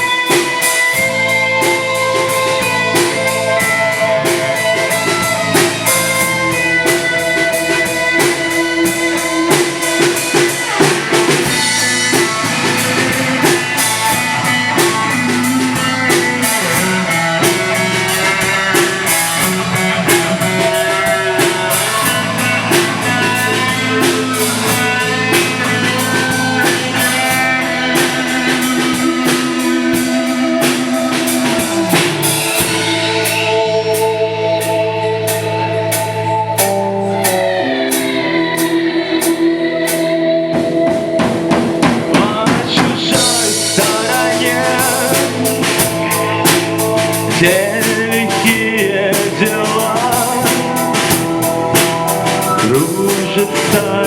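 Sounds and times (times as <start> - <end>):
drum kit beat: 0.0 - 54.0
guitars: 0.0 - 54.0
rock band playing: 0.0 - 54.0.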